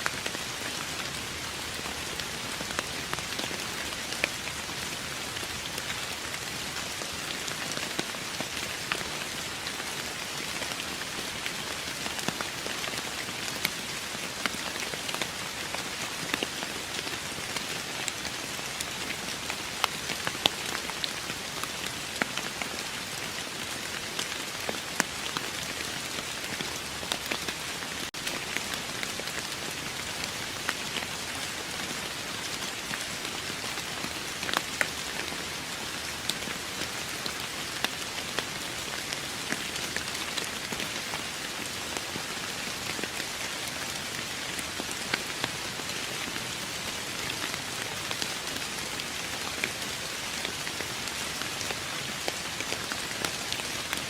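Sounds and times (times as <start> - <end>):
raindrops ticking on a surface: 0.0 - 54.0
steady rain hiss: 0.0 - 54.0.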